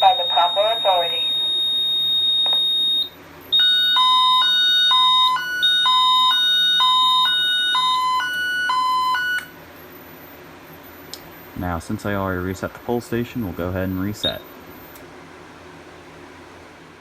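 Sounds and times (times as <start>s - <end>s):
smoke detector sounder tone: 0.0s - 15.0s
high-low evacuation tone: 0.0s - 17.0s.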